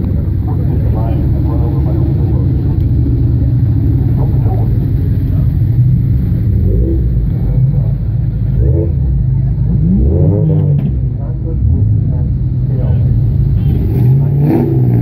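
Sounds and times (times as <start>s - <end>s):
car engine revving: 0.0s - 15.0s
car engines rumbling: 0.0s - 15.0s.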